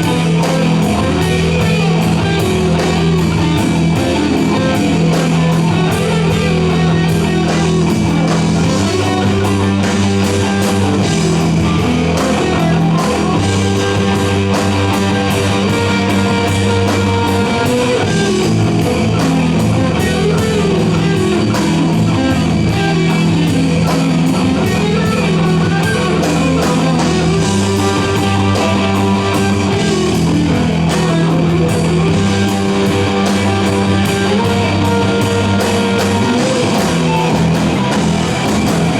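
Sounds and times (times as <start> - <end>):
electric guitars: 0.0 - 38.9
held bass notes: 0.0 - 38.9
steady drum beat: 0.0 - 38.9.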